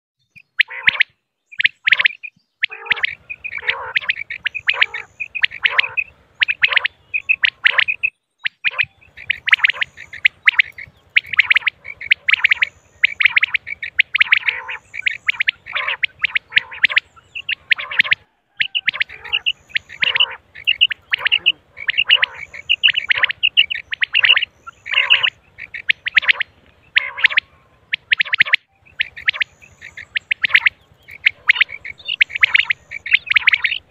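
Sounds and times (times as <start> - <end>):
quail chirping calls: 0.2 - 33.9.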